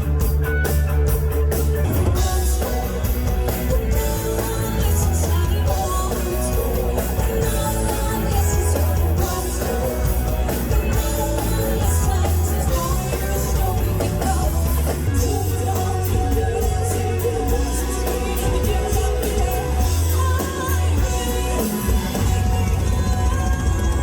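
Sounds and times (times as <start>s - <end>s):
rock music with vocals: 0.0s - 24.0s.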